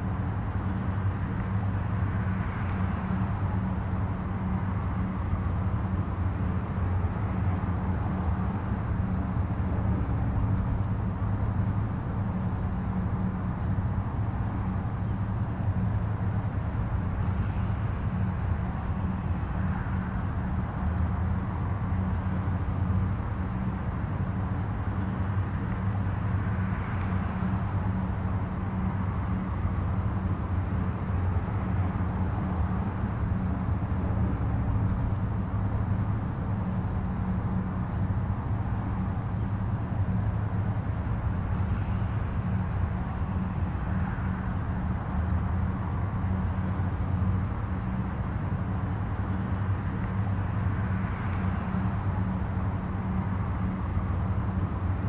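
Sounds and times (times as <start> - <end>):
distant highway traffic rumble: 0.0 - 55.0
vehicles passing: 0.0 - 55.0.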